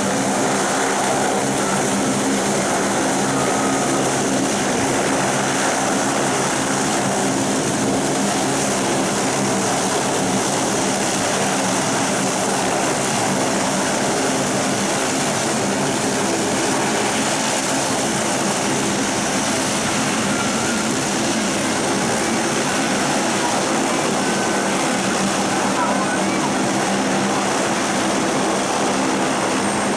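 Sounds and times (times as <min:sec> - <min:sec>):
turboprop engines droning: 0:00.0 - 0:29.9.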